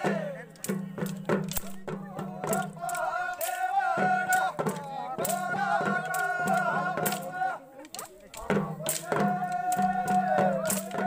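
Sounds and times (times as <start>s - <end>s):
men singing together: 0.0s - 0.8s, 2.0s - 7.7s, 8.4s - 11.0s
sharp percussion strikes: 0.0s - 7.4s, 8.4s - 11.0s.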